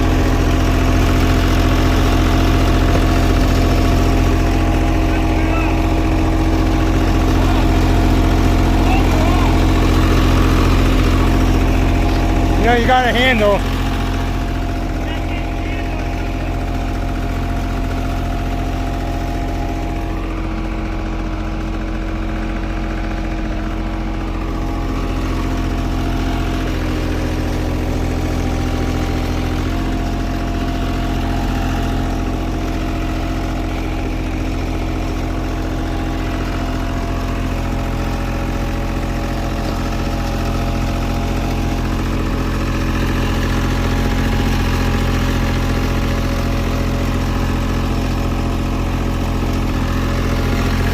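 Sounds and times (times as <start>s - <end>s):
paving machine engine running: 0.0s - 50.9s.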